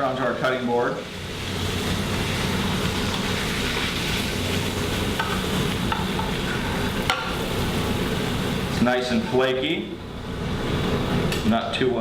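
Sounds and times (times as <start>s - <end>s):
oil sizzling in a frying pan: 0.0s - 11.3s.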